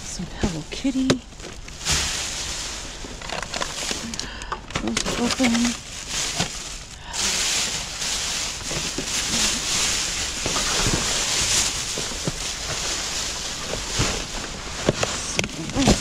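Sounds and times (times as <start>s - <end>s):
plastic bags rustling and crinkling: 0.0s - 16.0s.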